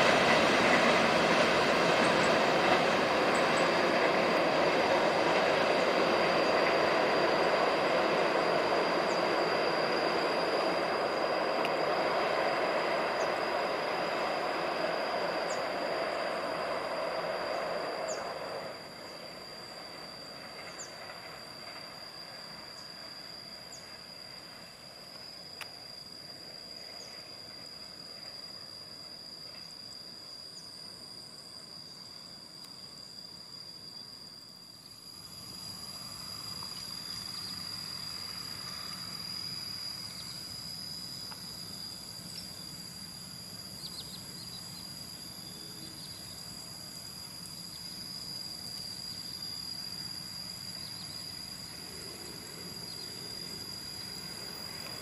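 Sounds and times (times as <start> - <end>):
higher insect tone: 0.0 - 55.0
insects droning: 0.0 - 55.0.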